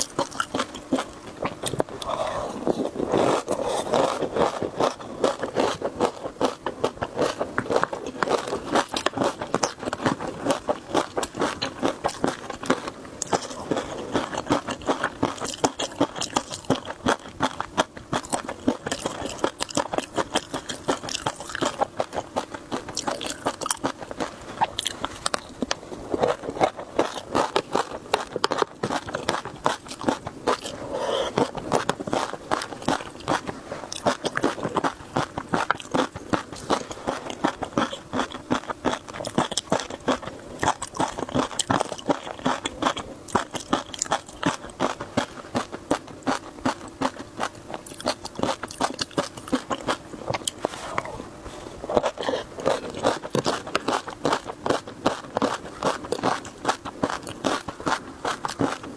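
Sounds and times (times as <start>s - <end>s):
person chewing crunchy food: 0.0s - 58.9s.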